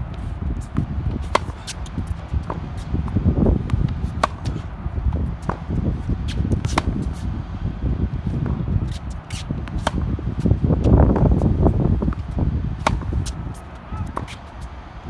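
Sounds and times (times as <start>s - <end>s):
wind rumble on microphone: 0.0s - 15.0s
racket hitting tennis ball: 0.6s - 7.3s, 8.4s - 14.8s
tennis ball bouncing: 0.6s - 7.3s, 8.4s - 14.8s.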